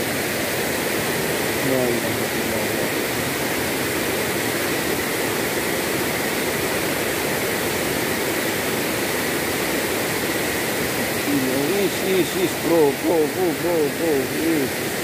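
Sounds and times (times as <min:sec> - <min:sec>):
water rushing over waterfall: 0:00.0 - 0:15.0.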